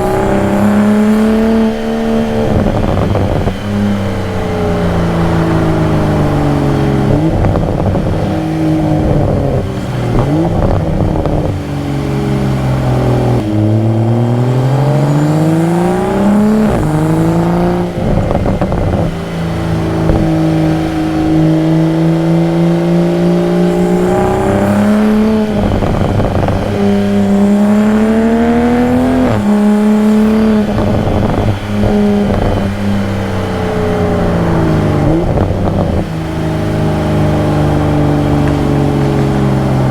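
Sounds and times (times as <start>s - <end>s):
car engine accelerating through gears: 0.0s - 39.9s
exhaust crackles: 0.0s - 39.9s.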